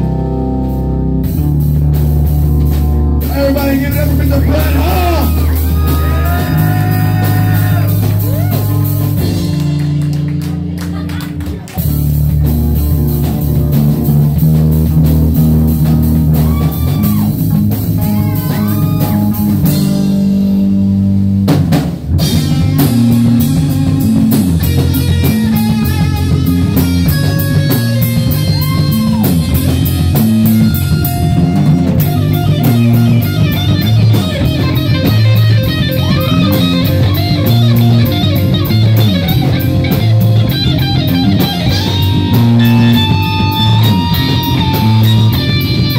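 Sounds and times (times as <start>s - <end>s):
bass guitar: 0.0s - 45.9s
distorted electric guitars: 0.0s - 45.9s
drum kit: 0.0s - 45.9s.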